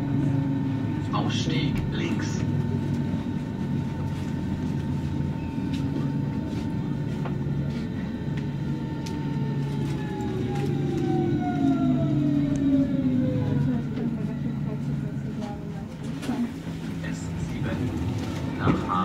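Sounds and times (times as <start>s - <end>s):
electric train motor whine: 0.0s - 19.0s
train rolling rumble: 0.0s - 19.0s.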